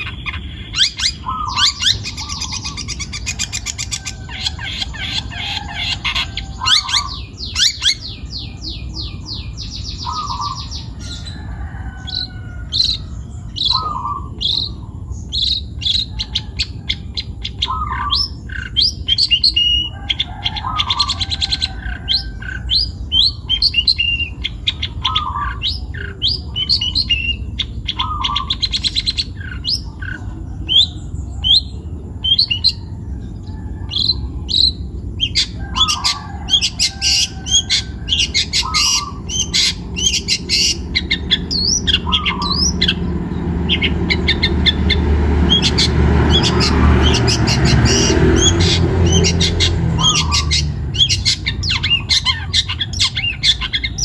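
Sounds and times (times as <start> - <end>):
bird song chirps and trills: 0.0 - 54.0.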